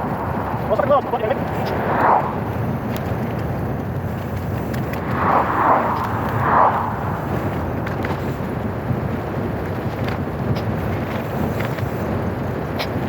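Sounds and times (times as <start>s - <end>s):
wind and bike rolling noise: 0.0s - 13.0s.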